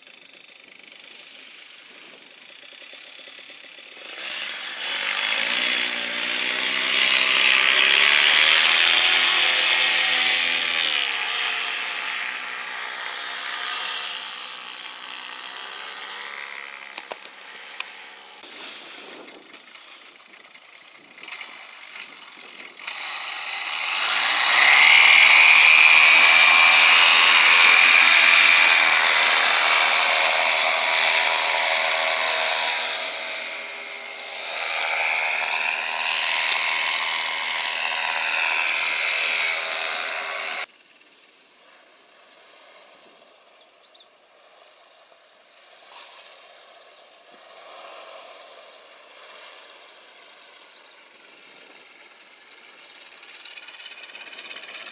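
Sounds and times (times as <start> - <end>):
small propeller engine whining: 0.0 - 54.9.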